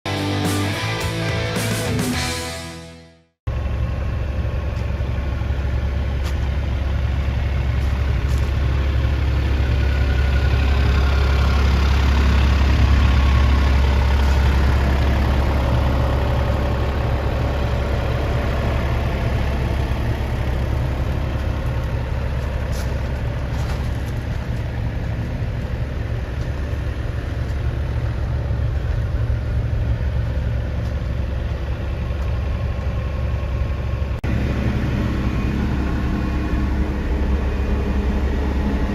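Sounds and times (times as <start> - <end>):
excavator diesel engine running: 3.5 - 38.9.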